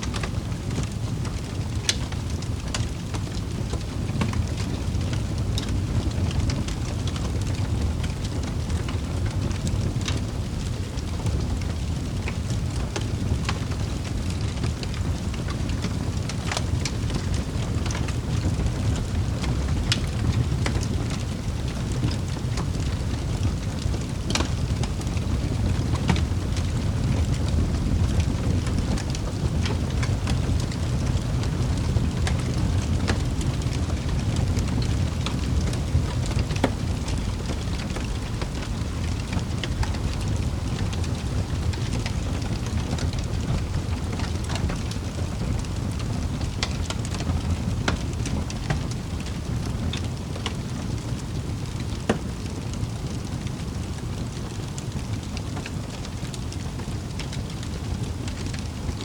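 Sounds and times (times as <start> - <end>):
fire pops and snaps: 0.0 - 59.0
wood fire crackling: 0.0 - 59.0.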